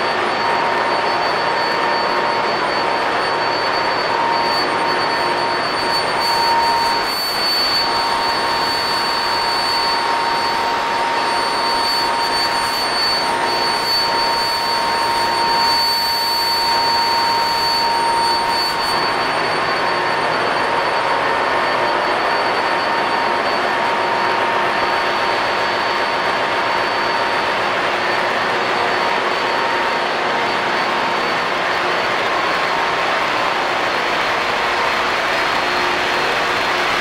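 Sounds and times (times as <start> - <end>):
engine room machinery roar: 0.0 - 37.0
whining tones: 0.0 - 37.0.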